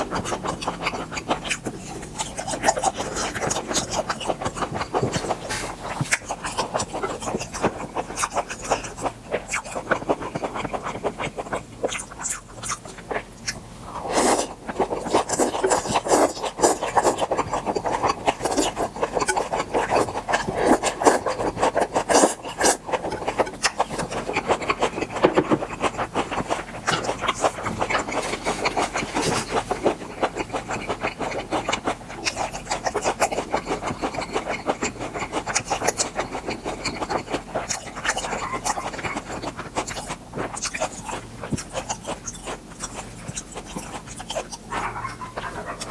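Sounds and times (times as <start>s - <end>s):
chewing mouth sounds: 0.0s - 45.9s.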